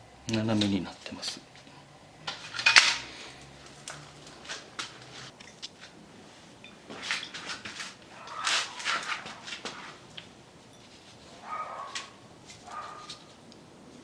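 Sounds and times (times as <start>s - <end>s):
short scraping rustles: 1.6s - 13.4s.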